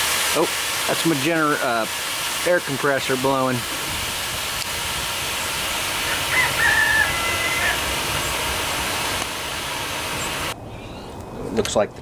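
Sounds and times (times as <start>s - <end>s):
air compressor hissing: 0.0s - 10.6s.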